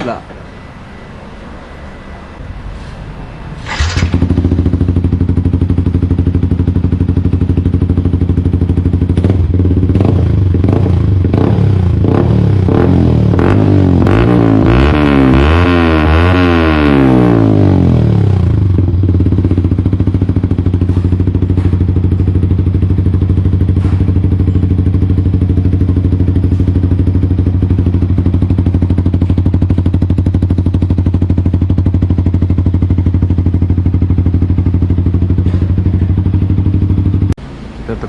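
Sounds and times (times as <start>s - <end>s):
motorcycle engine idling: 3.3s - 14.6s, 16.0s - 38.0s.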